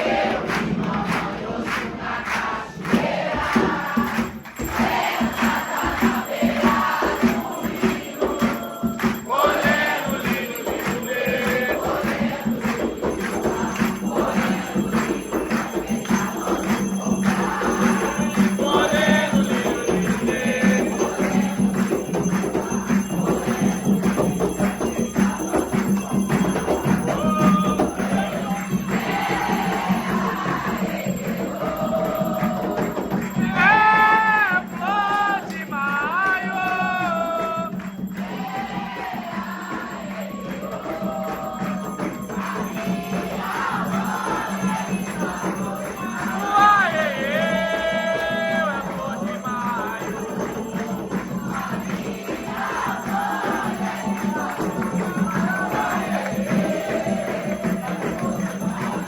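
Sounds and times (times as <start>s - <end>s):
group of voices chanting: 0.0s - 37.6s, 38.2s - 59.0s
fast drumming and percussion: 0.0s - 59.0s.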